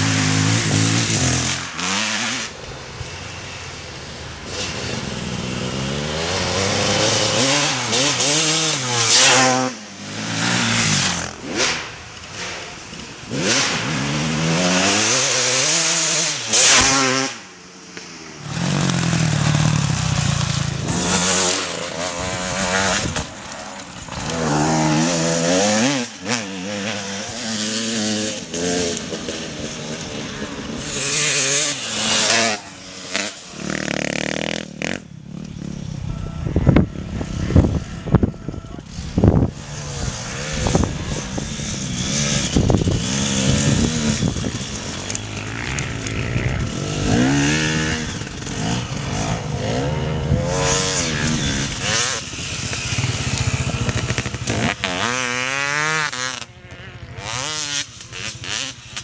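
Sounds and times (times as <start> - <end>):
racing engines revving: 4.0 - 59.0.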